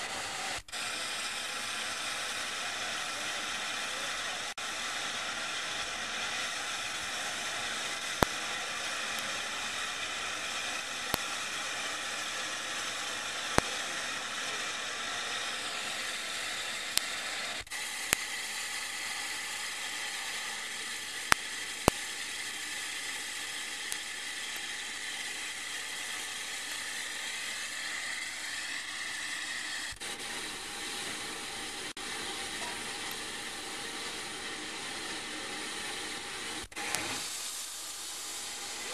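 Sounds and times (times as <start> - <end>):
steam hissing from locomotive: 0.0 - 38.9.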